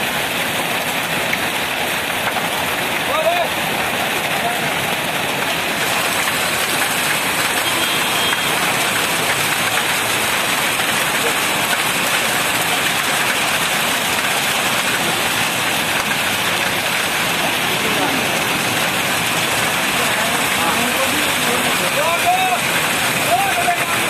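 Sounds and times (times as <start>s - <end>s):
rain and hail pelting ground: 0.0s - 24.0s.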